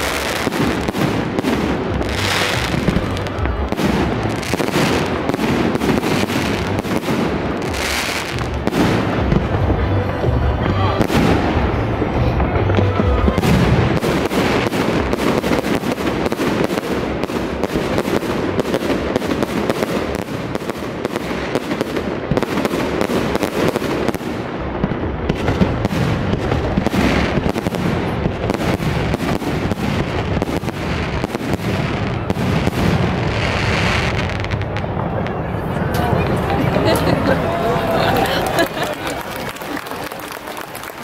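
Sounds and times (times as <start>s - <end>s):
fireworks bursting with bangs: 0.0s - 37.2s.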